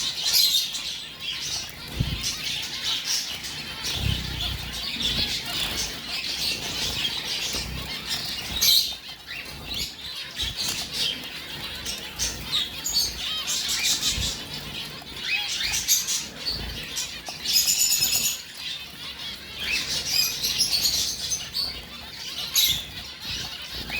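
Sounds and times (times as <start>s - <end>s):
finches chirping: 0.0s - 23.9s.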